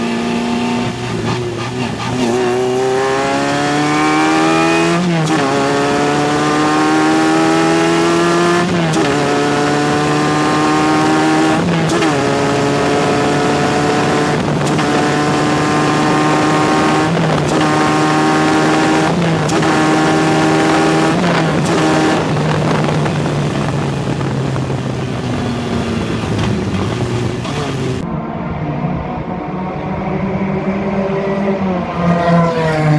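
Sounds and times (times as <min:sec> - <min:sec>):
race car engine accelerating: 0:00.0 - 0:32.9.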